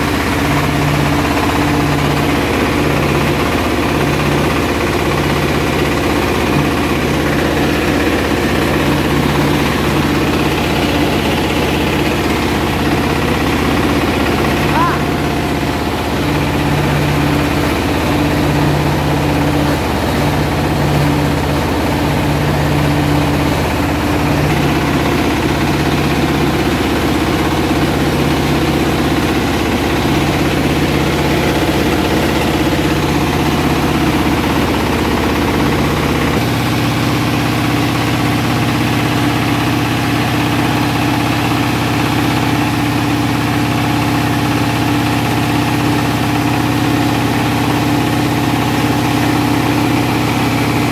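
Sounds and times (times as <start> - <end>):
rice milling machine engine humming: 0.0 - 50.9.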